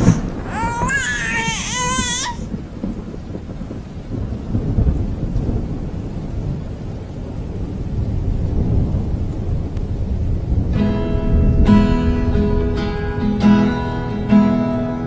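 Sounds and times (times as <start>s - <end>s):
low rolling thunder: 0.0s - 13.6s.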